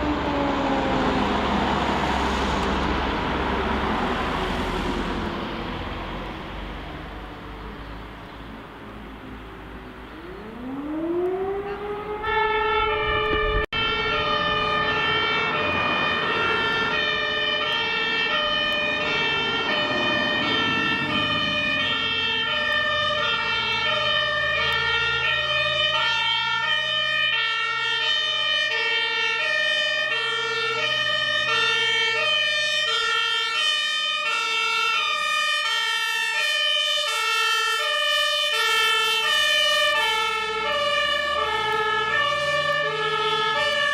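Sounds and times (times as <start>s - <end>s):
siren gliding up in pitch: 0.0s - 2.4s, 10.1s - 43.9s
two-tone fire engine siren: 0.0s - 7.4s, 8.7s - 43.9s.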